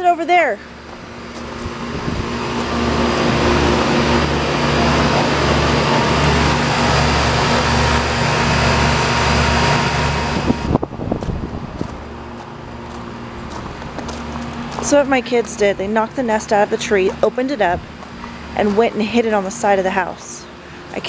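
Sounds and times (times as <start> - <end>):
air conditioner fan whir: 0.0 - 21.0
compressor hum: 0.0 - 21.0.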